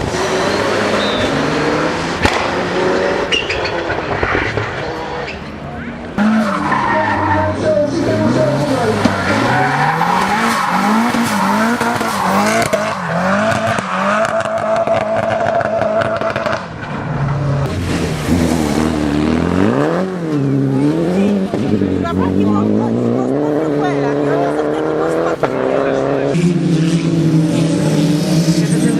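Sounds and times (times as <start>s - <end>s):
racing car engine revving: 0.0s - 28.9s.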